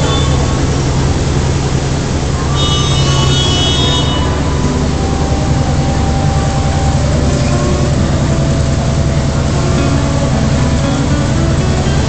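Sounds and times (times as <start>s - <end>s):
high-pitched tone: 0.0s - 12.0s
vehicle engine rumbling: 0.0s - 12.0s.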